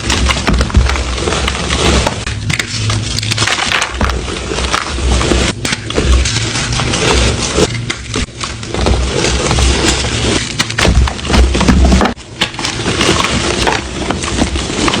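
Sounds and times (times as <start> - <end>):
chalk crushed and crackling: 0.0 - 15.0.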